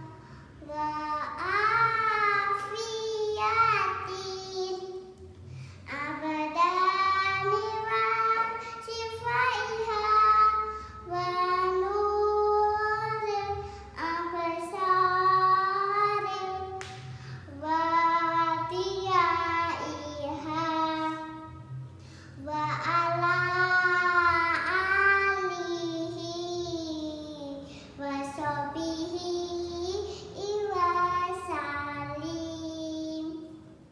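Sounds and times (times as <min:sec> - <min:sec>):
girl singing devotional song: 0:00.0 - 0:33.9.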